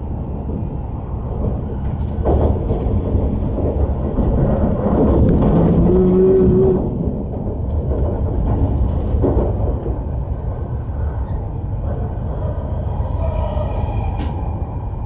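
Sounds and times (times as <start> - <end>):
train running gear rumbling: 0.0 - 15.0.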